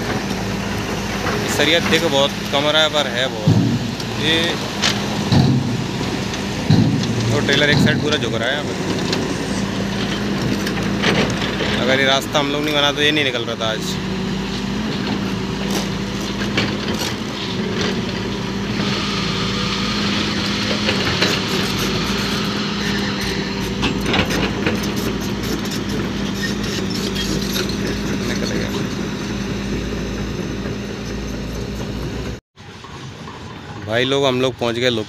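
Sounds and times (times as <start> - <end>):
trailer load rattling and knocking: 0.0 - 34.9
diesel truck engine running: 0.0 - 35.0.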